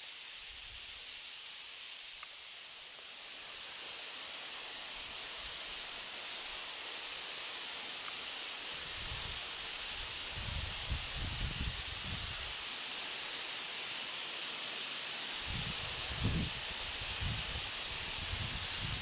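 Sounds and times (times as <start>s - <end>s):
wind through grass: 0.0s - 14.5s, 15.3s - 19.0s.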